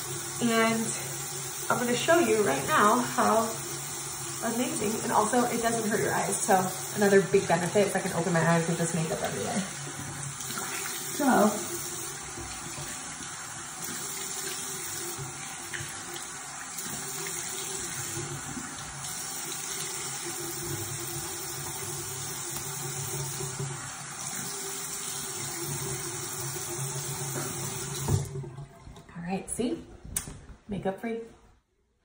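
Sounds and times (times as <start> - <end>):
face rinsing under water: 0.0 - 28.6
sink tap running: 0.0 - 29.0.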